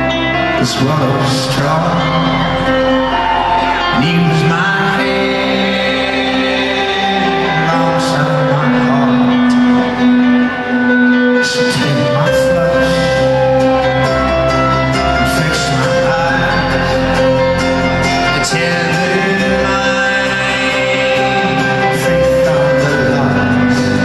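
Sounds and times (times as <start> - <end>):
deep bass: 0.0 - 24.0
live folk-rock band playing: 0.0 - 24.0.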